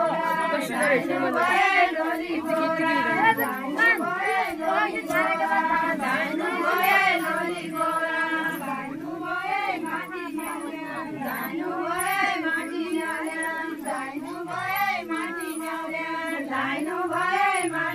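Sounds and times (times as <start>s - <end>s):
women singing in chorus: 0.0s - 17.9s.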